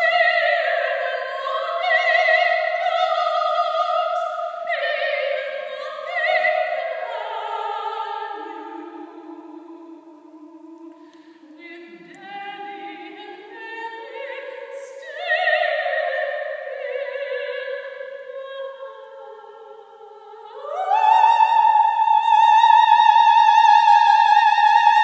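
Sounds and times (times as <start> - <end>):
woman singing operatically: 0.0 - 25.0.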